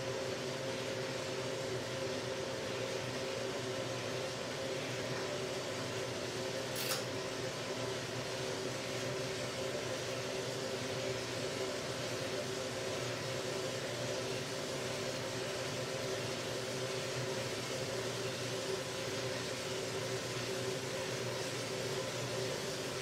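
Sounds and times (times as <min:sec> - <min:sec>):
coffee roaster motor and fan hum: 0:00.0 - 0:23.0.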